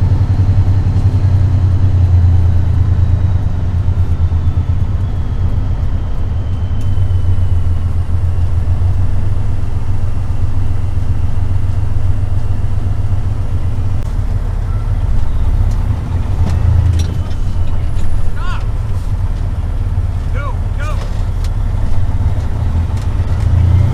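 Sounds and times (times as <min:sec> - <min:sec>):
truck engine rumbling: 0:00.0 - 0:23.9.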